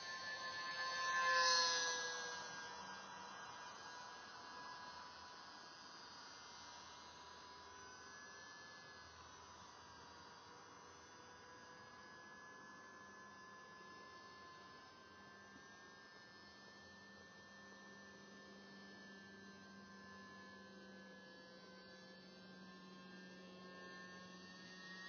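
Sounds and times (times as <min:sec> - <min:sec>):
distant model plane motor whine: 0:00.0 - 0:25.0.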